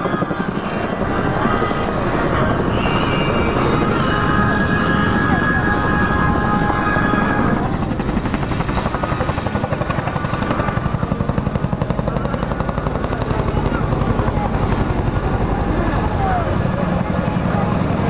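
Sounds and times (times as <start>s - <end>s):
helicopter rotor beat: 0.0s - 18.0s
helicopter turbine noise: 0.0s - 18.0s.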